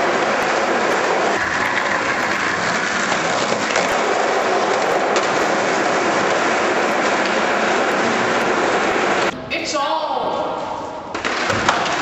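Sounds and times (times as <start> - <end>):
skateboard wheels rolling on concrete: 0.0 - 9.3, 11.1 - 12.0.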